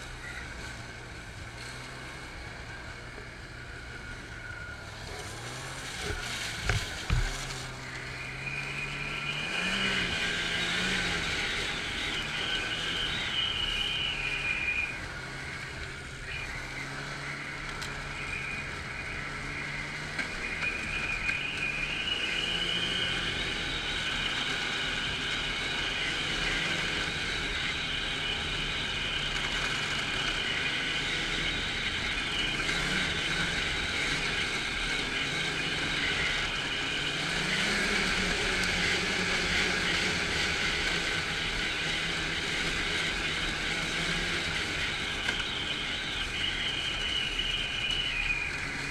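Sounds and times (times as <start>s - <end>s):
high whine: 0.0s - 48.9s
snowmobile engine running: 0.0s - 48.9s.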